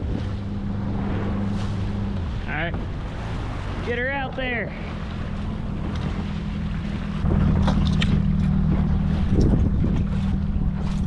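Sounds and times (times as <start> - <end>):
water splashing along boat hull: 0.0 - 11.0
wind rumbling on microphone: 0.0 - 11.0.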